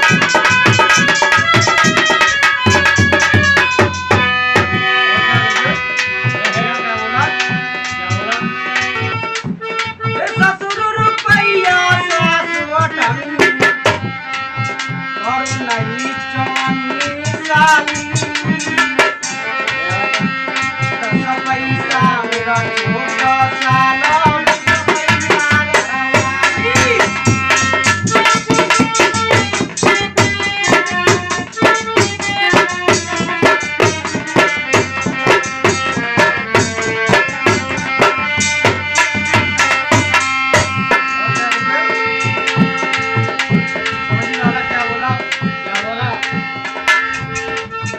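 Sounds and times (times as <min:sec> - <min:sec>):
dholak drum rhythm: 0:00.0 - 0:47.9
harmonium melody: 0:00.0 - 0:47.9.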